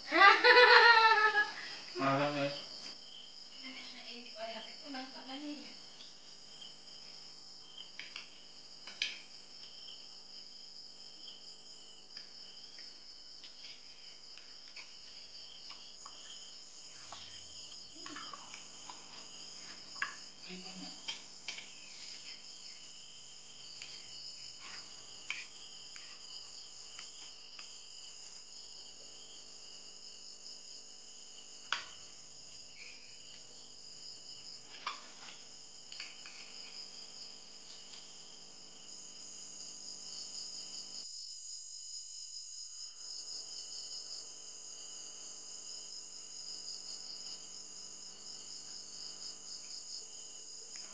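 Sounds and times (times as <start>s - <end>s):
insects chorus: 0.0s - 50.9s.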